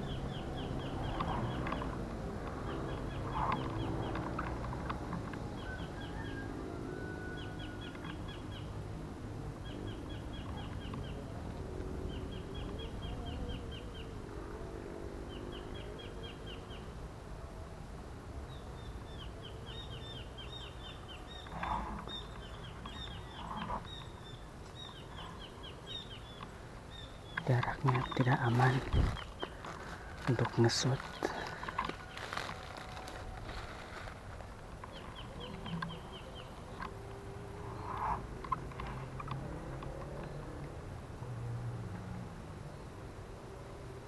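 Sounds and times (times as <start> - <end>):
low outdoor background: 0.0 - 44.0.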